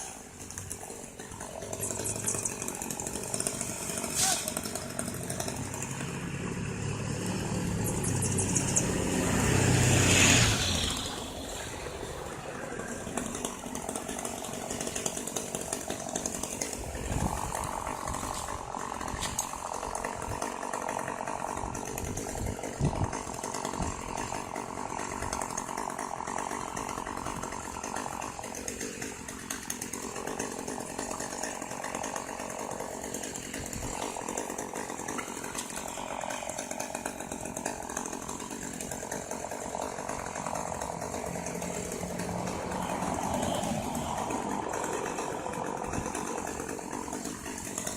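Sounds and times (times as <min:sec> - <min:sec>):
chainsaw running: 0:00.0 - 0:47.9
faint engine drone: 0:00.0 - 0:47.9.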